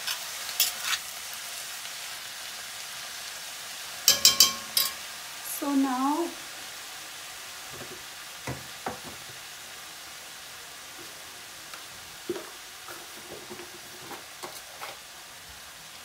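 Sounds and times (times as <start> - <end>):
cabbage sizzling in oil: 0.0 - 16.0.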